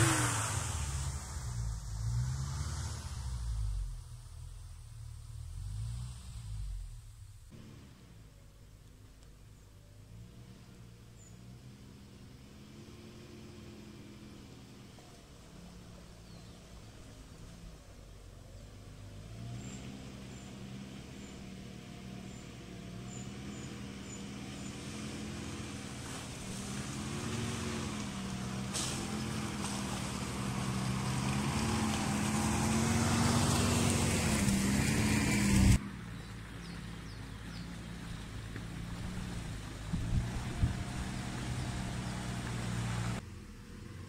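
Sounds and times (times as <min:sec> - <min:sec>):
car engine running at low revs: 0:00.0 - 0:44.0
faint engine sound: 0:00.0 - 0:44.0.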